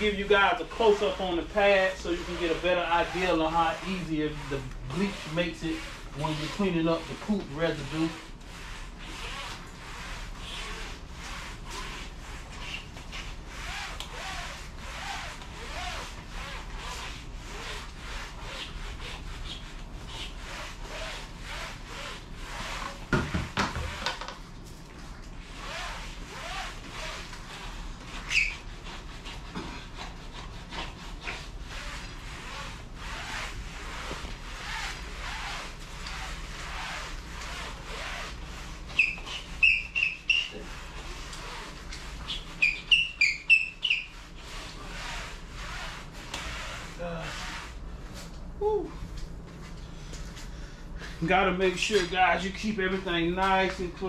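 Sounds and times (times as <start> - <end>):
mop scrubbing foam mats: 0.0 - 54.0.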